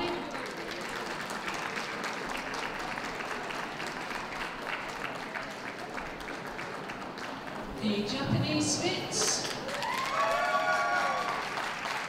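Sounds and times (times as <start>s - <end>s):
audience applauding: 0.0s - 7.8s, 9.2s - 12.0s.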